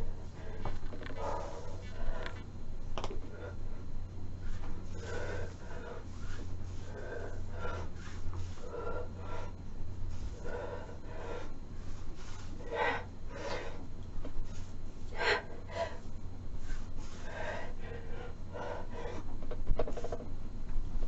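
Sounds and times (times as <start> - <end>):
person breathing hard: 0.0 - 2.5, 3.1 - 20.2
steady low hum: 0.0 - 21.0.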